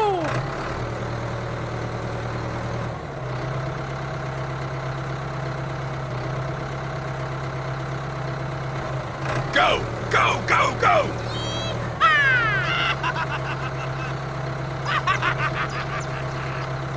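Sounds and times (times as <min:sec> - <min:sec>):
tractor engine idling: 0:00.0 - 0:16.9.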